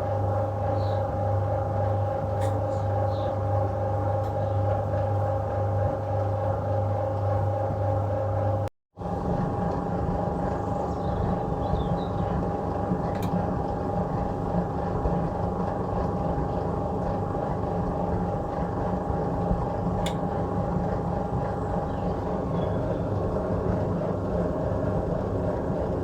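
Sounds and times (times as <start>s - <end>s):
washing machine motor humming: 0.0s - 26.0s.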